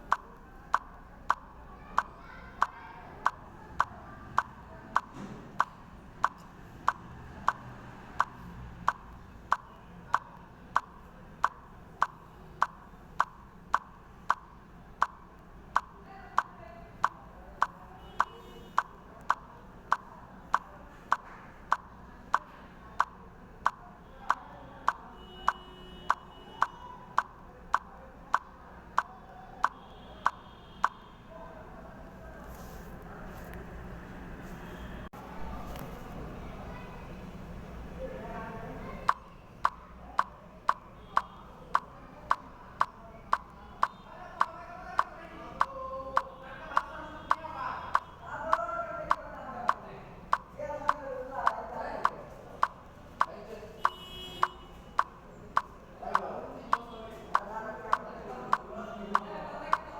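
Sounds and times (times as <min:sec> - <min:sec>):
clock ticking: 0:00.0 - 0:31.0, 0:38.9 - 0:59.9.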